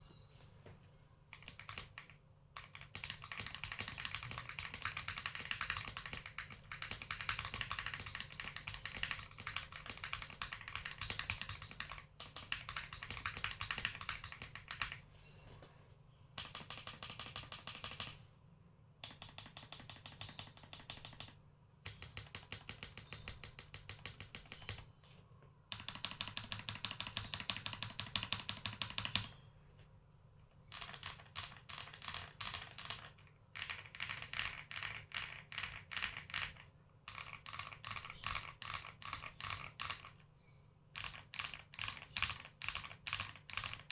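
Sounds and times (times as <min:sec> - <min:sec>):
mechanical keyboard typing: 0:01.3 - 0:15.0, 0:16.4 - 0:18.2, 0:19.0 - 0:24.9, 0:25.7 - 0:29.4, 0:30.7 - 0:40.3, 0:40.9 - 0:43.9.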